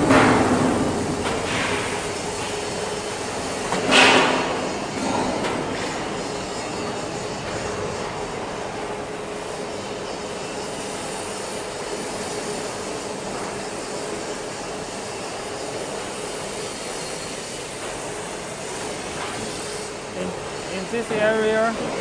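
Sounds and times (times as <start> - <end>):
workshop machinery hissing and humming: 0.0 - 22.0.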